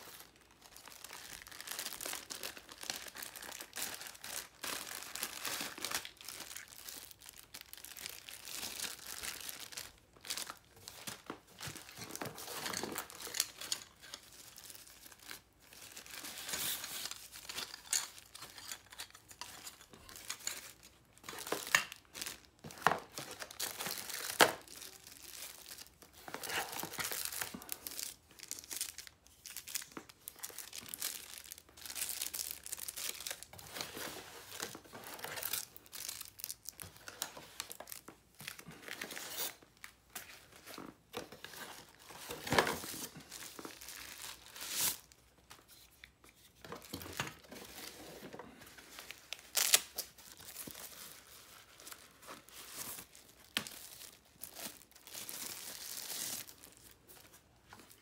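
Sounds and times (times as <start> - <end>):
plastic bags crinkling: 0.0 - 58.0.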